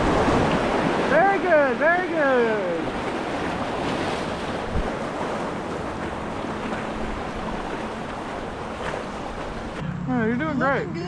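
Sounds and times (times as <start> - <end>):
river whitewater rushing: 0.0 - 9.8.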